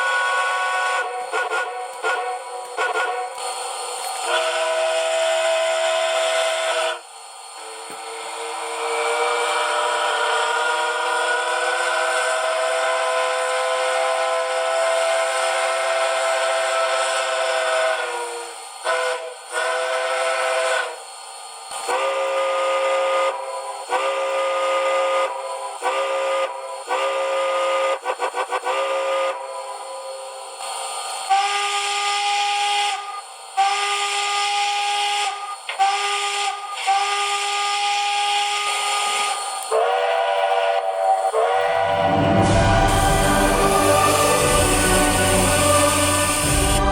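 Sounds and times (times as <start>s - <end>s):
model steam whistle blasts: 0.0s - 7.0s, 7.6s - 21.1s, 21.7s - 46.9s
steam hiss: 0.0s - 46.9s.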